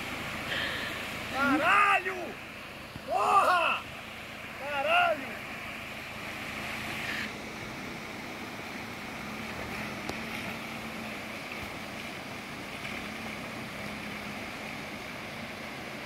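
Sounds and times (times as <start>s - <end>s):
water rushing over rock: 0.0s - 16.0s.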